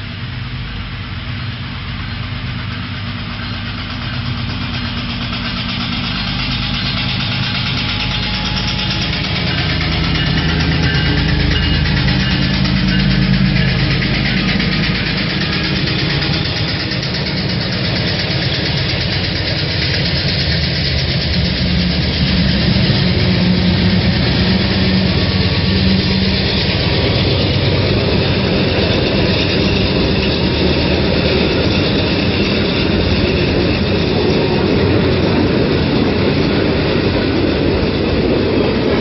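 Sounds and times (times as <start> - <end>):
diesel locomotive engine hum: 0.0 - 39.0.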